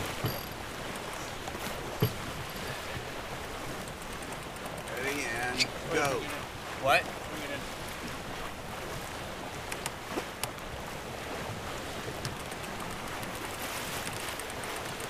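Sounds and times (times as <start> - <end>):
water rushing along hull: 0.0 - 15.0
wind: 0.0 - 15.0.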